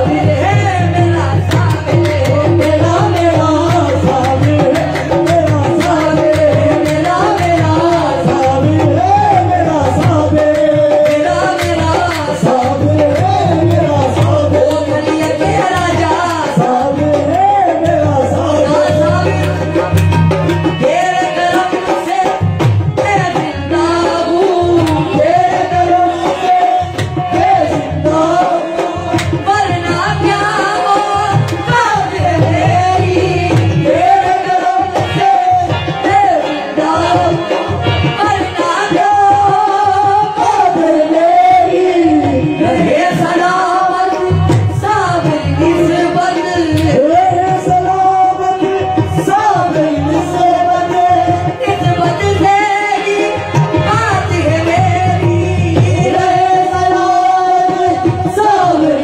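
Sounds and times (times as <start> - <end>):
hand drum beat: 0.0 - 59.0
harmonium: 0.0 - 59.0
man singing devotional song: 0.0 - 59.0.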